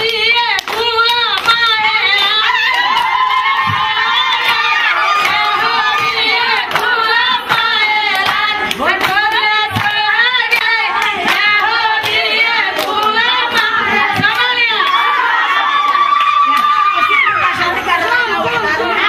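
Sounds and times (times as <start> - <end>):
rhythmic hand clapping: 0.0 - 19.0
women singing together: 0.0 - 19.0.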